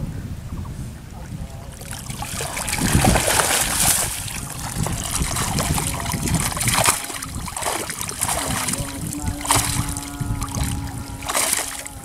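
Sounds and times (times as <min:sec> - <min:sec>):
water splashing and trickling: 0:01.2 - 0:12.0.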